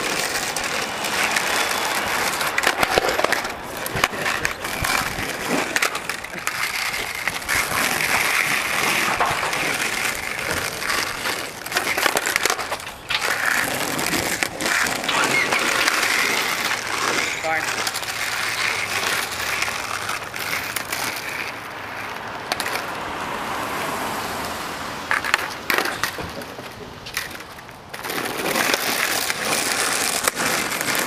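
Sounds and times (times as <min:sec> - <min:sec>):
skateboard clacks: 0:00.0 - 0:23.4, 0:25.1 - 0:31.0
skateboard wheels on asphalt: 0:00.0 - 0:31.0.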